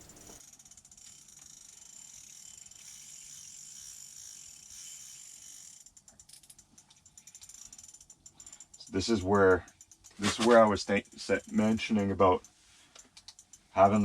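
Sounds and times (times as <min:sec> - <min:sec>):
fishing reel drag clicking: 0:00.0 - 0:13.9.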